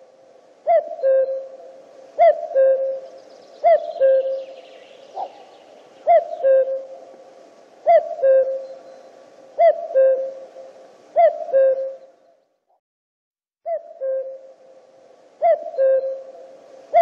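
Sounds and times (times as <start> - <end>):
cuckoo calling: 0.6 - 7.2, 7.8 - 12.4, 13.7 - 14.8, 15.4 - 17.0.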